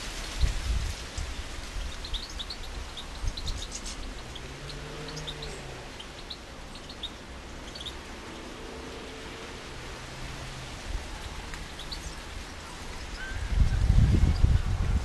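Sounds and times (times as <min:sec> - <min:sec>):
small birds chirping: 0:00.0 - 0:09.8, 0:10.8 - 0:14.7
low outdoor rumble: 0:00.0 - 0:15.0.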